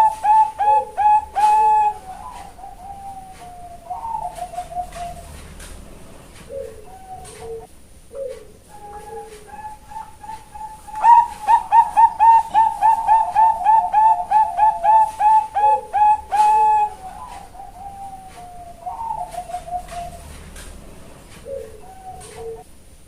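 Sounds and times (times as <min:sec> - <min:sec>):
dove cooing: 0:00.0 - 0:22.7.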